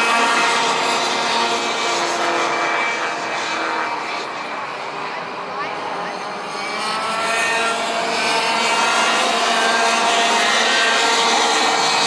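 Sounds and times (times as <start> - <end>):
kart engines revving: 0.0 - 12.0.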